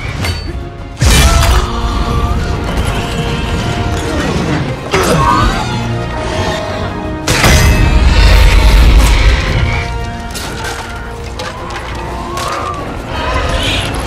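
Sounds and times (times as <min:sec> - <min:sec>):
orchestral film score: 0:00.0 - 0:14.0.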